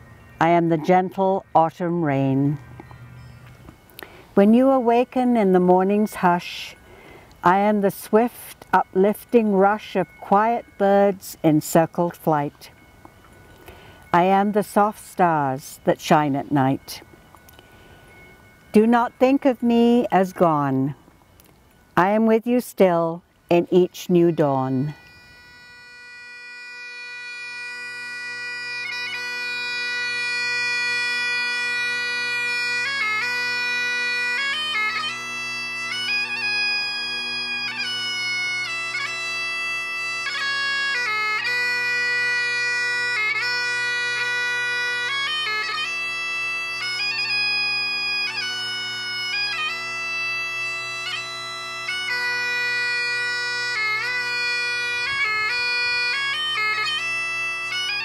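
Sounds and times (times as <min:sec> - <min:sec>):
bagpipes playing slow tune: 0:00.0 - 0:58.0.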